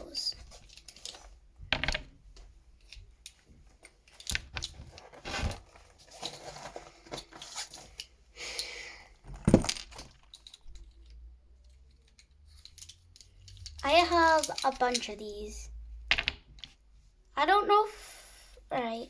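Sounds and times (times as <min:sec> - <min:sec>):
pencils clattering: 0:00.0 - 0:02.2, 0:02.8 - 0:16.8.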